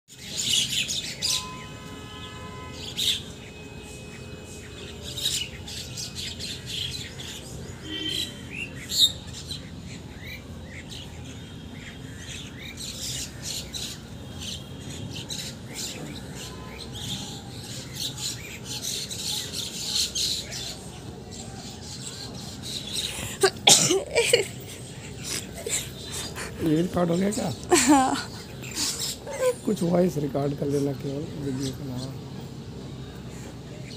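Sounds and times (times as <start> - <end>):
birds chirping in a tree: 0.1 - 33.9
low background noise: 0.1 - 33.9.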